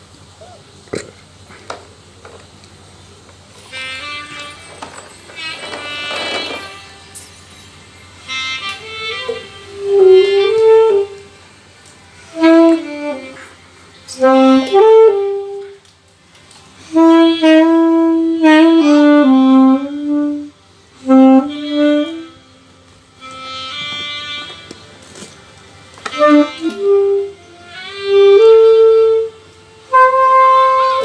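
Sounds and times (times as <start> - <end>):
saxophone melody: 3.5 - 15.8, 16.8 - 31.0.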